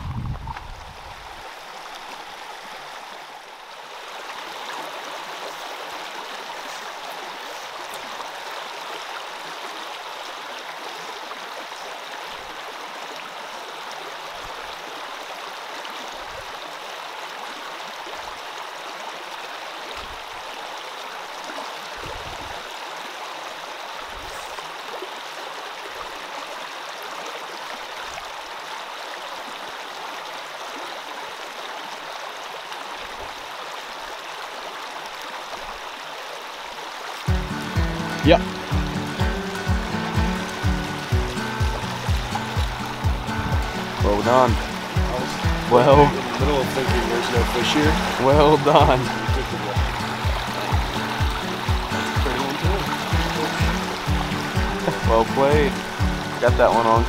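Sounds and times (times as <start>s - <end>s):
brook running over rocks: 0.0s - 57.0s.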